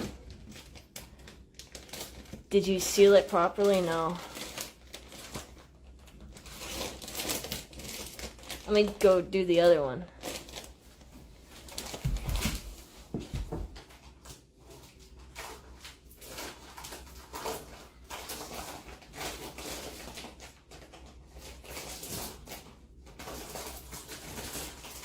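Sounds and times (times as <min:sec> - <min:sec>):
plastic bag rustling: 0:00.0 - 0:25.0.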